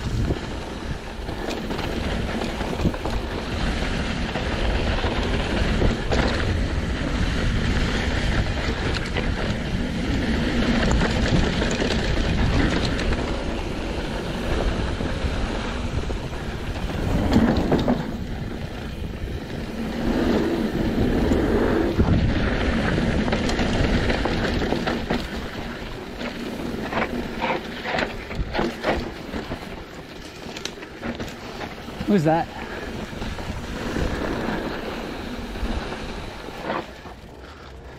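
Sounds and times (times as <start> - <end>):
mountain bike rumbling and rattling: 0.0 - 37.9
wind buffeting microphone: 0.0 - 37.9.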